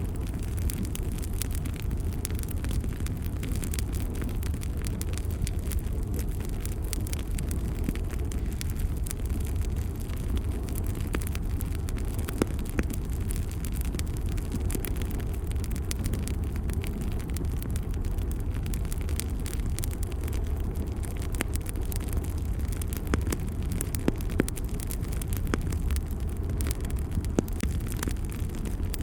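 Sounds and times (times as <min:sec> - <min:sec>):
fire crackling in fireplace: 0:00.0 - 0:29.0
sharp pops of fire: 0:00.0 - 0:29.0.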